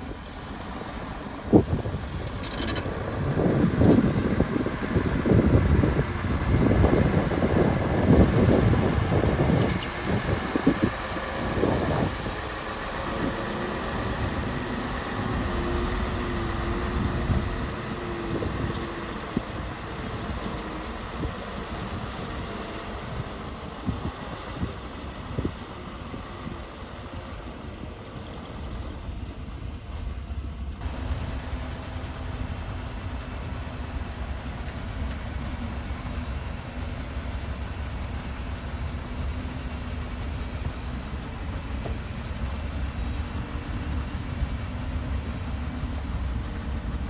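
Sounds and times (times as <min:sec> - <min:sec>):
diesel engine rumbling: 0:00.0 - 0:47.0
faint steady whine: 0:00.0 - 0:47.0.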